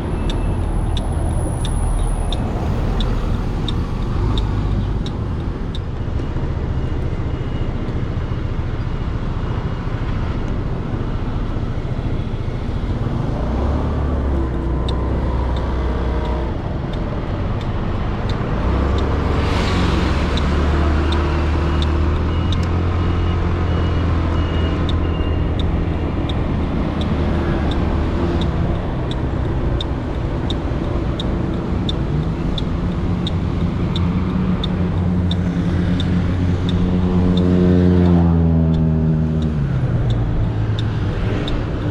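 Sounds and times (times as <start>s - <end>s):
motorcycle engine and road rumble: 0.0s - 41.9s
faint regular ticking: 0.1s - 7.1s, 14.1s - 41.9s.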